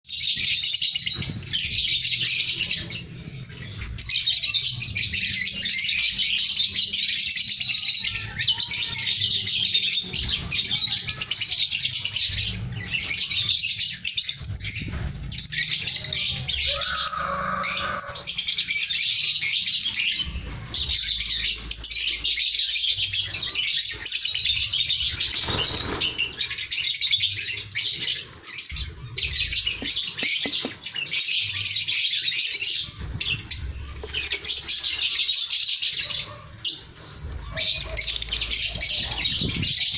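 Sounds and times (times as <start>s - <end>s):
birds chattering with shrill chirps: 0.0s - 39.9s.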